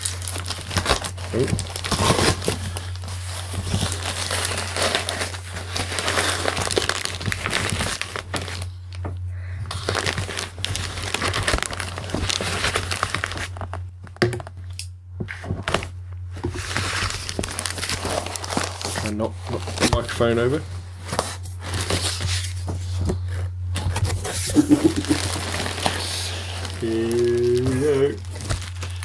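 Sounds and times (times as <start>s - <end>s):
packaging crinkling and tearing: 0.0s - 8.8s, 9.7s - 29.0s.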